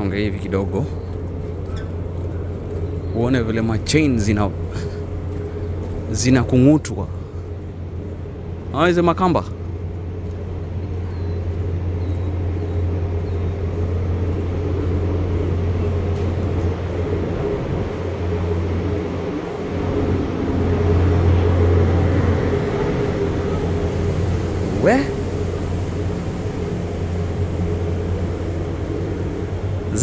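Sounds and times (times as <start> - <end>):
ship machinery drone: 0.0 - 30.0.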